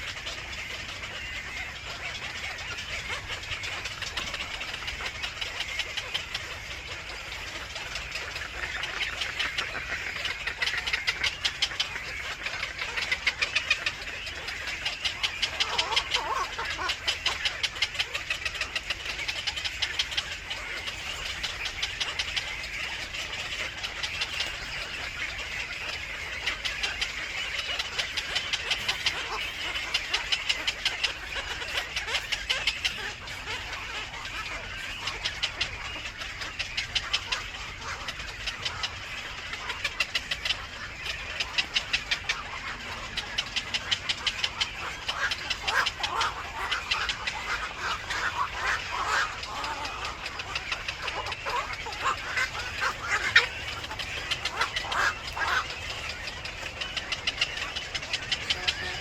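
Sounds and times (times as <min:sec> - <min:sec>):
birds chirping rapidly: 0:00.0 - 0:59.0.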